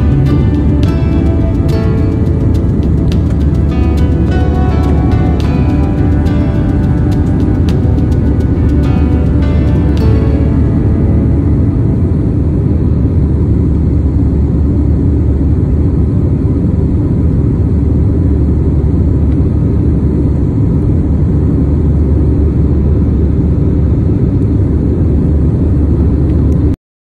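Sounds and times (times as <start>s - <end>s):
jet engines rumbling: 0.0s - 26.7s.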